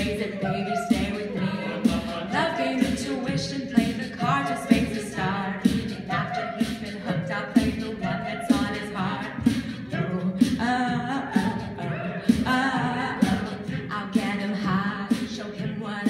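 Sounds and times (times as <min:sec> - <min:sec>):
a cappella group singing: 0:00.0 - 0:16.0
vocal percussion beat: 0:00.0 - 0:16.0.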